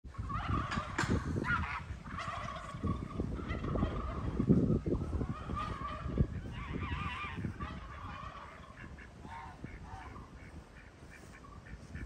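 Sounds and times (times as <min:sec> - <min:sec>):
farmyard fowl calling: 0:00.1 - 0:12.0.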